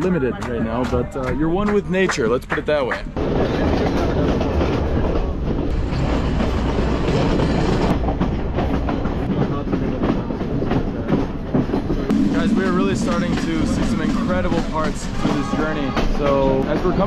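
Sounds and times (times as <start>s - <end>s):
train rumbling on track: 0.0s - 17.0s
wheels clacking over rails: 0.8s - 17.0s.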